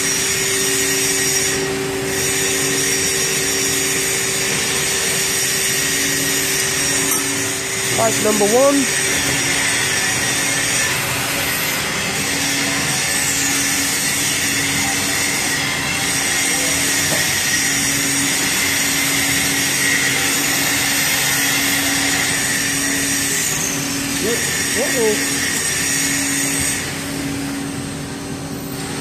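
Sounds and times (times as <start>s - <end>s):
hydraulic machine running: 0.0s - 29.0s.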